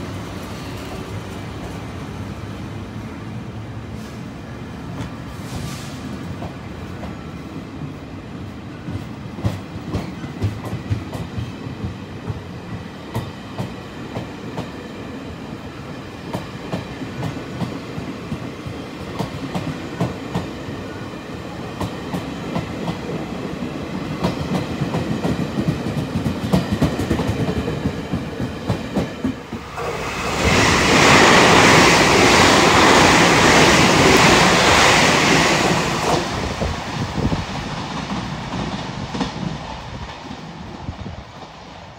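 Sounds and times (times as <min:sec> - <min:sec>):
low train rumble: 0:00.0 - 0:41.9.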